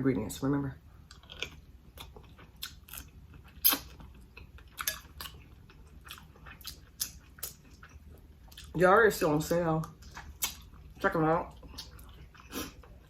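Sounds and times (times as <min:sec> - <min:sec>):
chewing and lip smacking: 0:01.0 - 0:08.8, 0:09.8 - 0:13.0.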